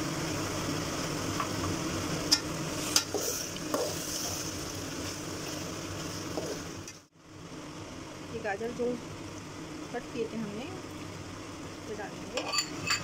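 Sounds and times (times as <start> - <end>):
food sizzling in a metal pot: 0.0 - 13.0.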